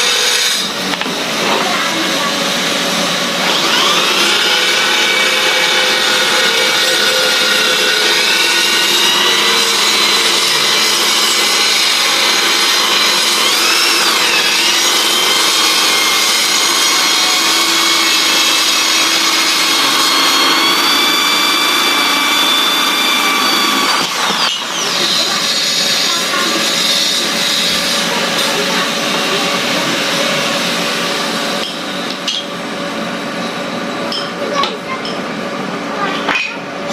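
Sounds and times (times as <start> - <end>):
jigsaw blade sawing: 0.0 - 31.7
electric drill motor whine: 2.1 - 32.4.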